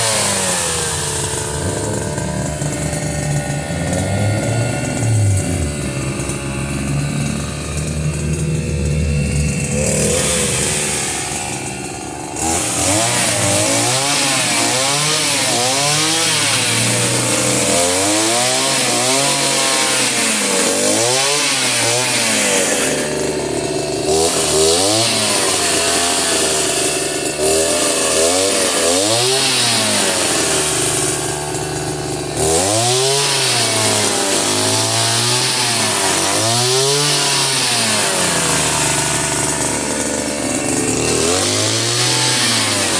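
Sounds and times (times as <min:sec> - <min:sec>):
small petrol engine revving: 0:00.0 - 0:42.9.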